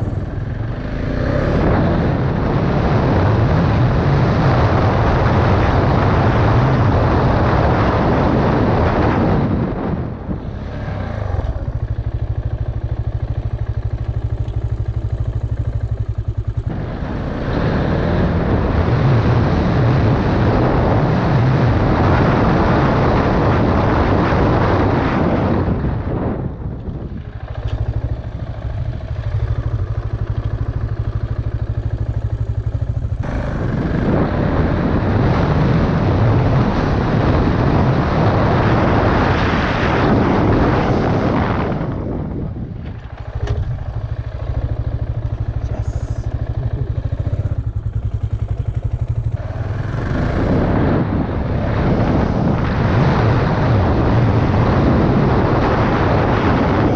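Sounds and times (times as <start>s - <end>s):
motorcycle engine: 0.0s - 56.9s
wind and road noise: 0.0s - 56.9s.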